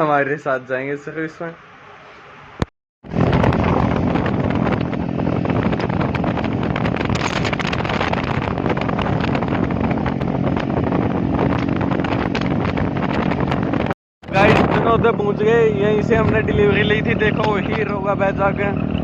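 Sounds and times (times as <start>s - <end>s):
wind buffeting microphone: 3.0s - 19.0s
motorcycle engine running: 3.1s - 19.0s.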